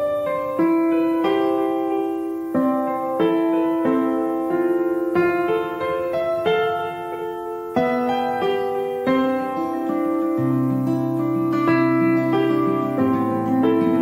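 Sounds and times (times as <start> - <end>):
slow electric piano melody: 0.0 - 14.0.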